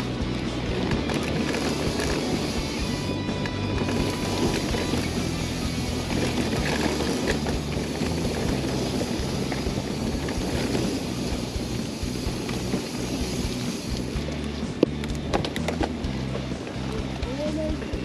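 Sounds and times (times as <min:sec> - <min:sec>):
tyres rolling on dirt trail: 0:00.0 - 0:18.0
bike clicks and knocks: 0:00.6 - 0:17.1.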